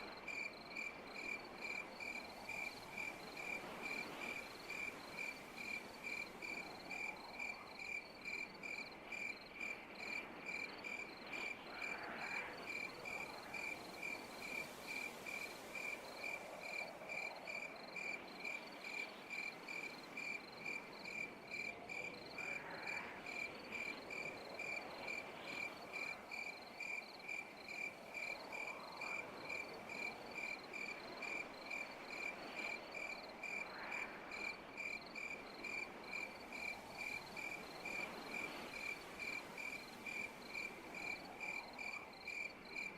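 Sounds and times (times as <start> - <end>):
insect chirping: 0.0 - 42.9.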